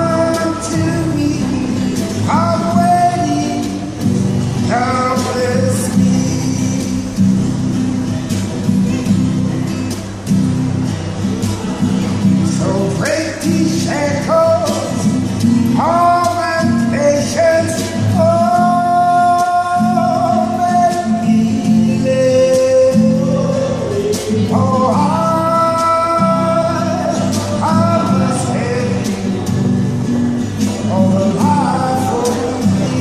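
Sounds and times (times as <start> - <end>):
man singing: 0.0 - 7.6, 12.0 - 33.0
strummed guitar: 0.0 - 33.0.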